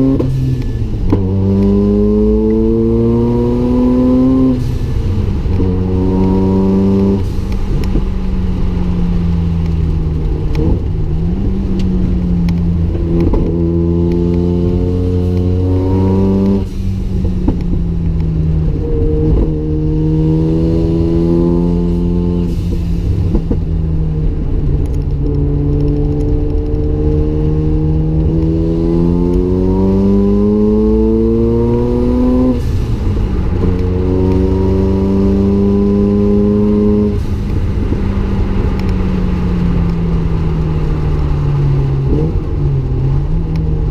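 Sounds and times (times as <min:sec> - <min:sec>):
rotary engine accelerating: 0:00.0 - 0:08.2, 0:08.9 - 0:43.9.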